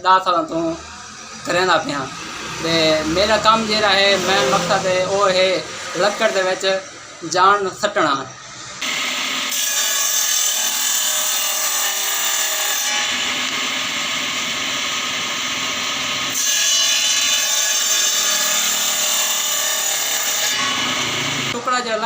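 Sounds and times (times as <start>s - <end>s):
power tool cutting wood: 0.5s - 21.6s.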